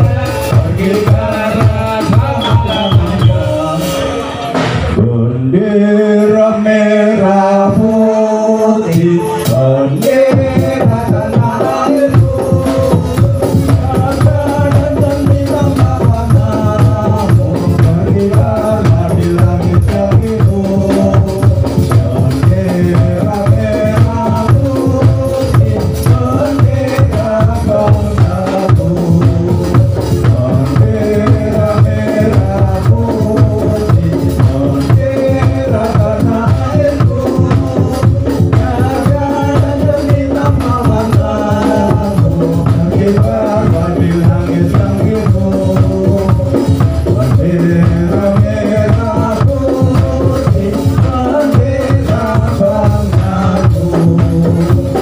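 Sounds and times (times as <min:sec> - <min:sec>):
sharp drum strokes: 0:00.0 - 0:05.1, 0:08.9 - 0:55.0
chant-like singing over held notes: 0:00.0 - 0:55.0.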